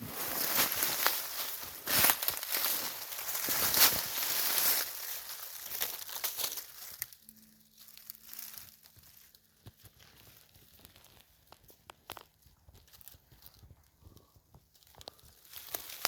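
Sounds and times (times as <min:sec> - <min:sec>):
dry rustling and crinkling: 0:00.0 - 0:16.0.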